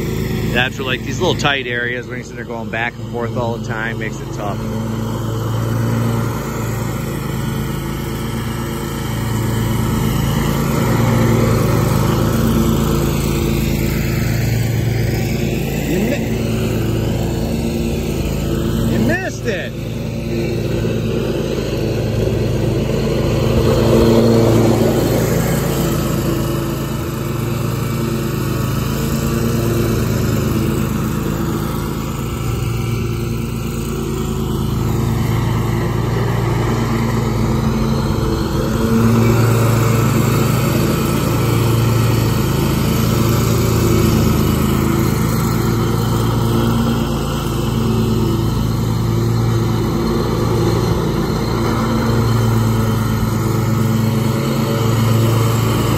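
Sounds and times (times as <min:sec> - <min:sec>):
riding mower engine running: 0:00.0 - 0:55.9.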